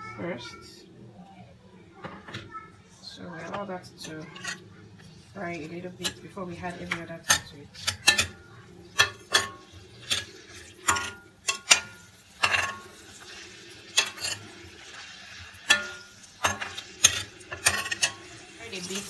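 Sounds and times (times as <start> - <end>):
faint sizzle: 0.0 - 19.0
spoon knocking and scraping pot: 3.4 - 19.0.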